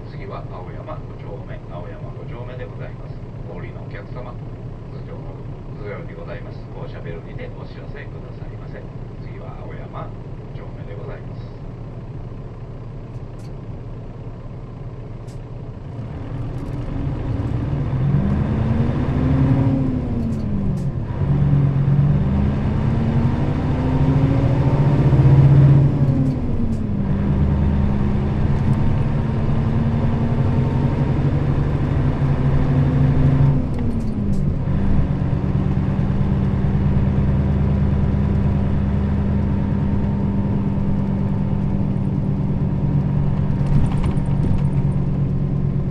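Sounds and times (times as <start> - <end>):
bus diesel engine accelerating: 0.0 - 45.9.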